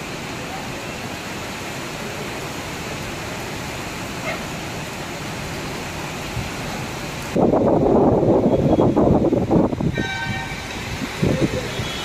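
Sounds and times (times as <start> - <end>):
heavy rain on a street: 0.0 - 12.0.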